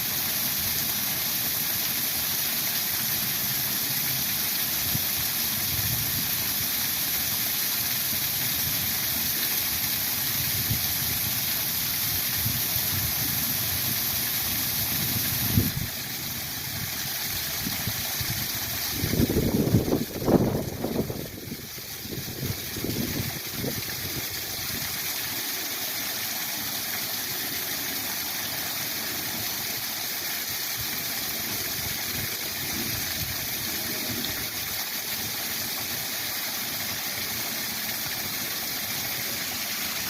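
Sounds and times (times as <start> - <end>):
waterfall rushing: 6.2 - 40.0.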